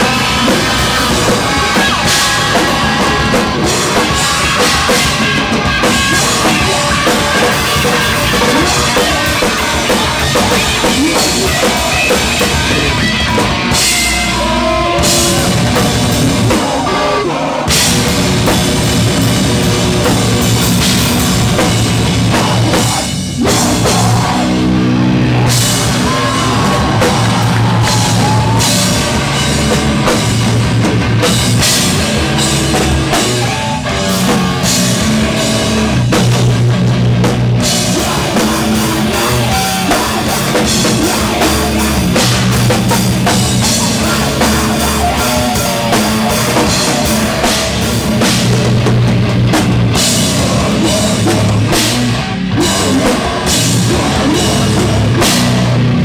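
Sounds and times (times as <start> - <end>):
distorted electric guitars: 0.0 - 56.0
pounding drum kit: 0.0 - 56.0.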